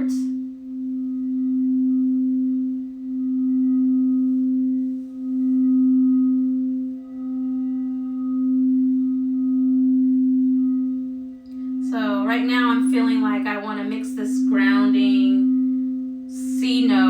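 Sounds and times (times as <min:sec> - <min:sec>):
crystal singing bowl tone: 0:00.0 - 0:17.0.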